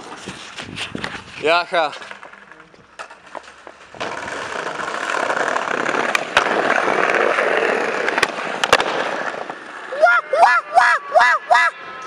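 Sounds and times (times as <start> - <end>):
skateboard wheels rolling on bricks: 0.0 - 10.0.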